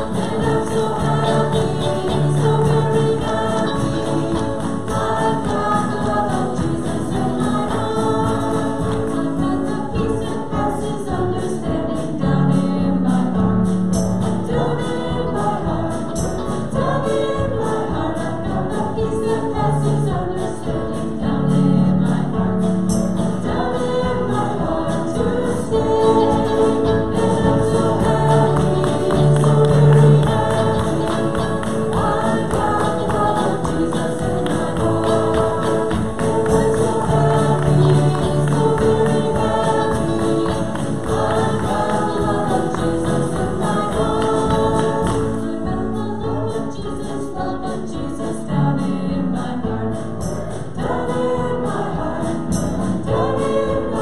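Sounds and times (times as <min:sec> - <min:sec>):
congregation singing: 0:00.0 - 0:54.0
instrumental accompaniment: 0:00.0 - 0:54.0.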